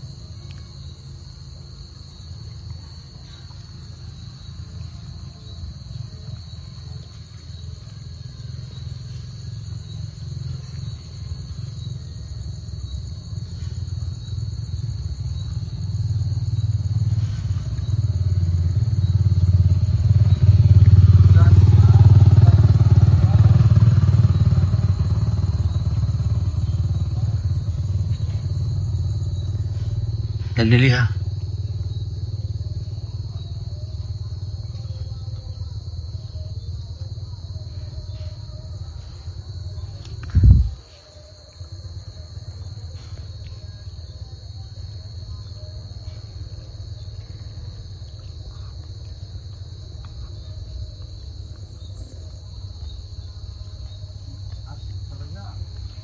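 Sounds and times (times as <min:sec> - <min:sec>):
crickets chirring: 0:00.0 - 0:56.0
insects trilling: 0:00.0 - 0:56.0
engine low throb: 0:01.1 - 0:56.0.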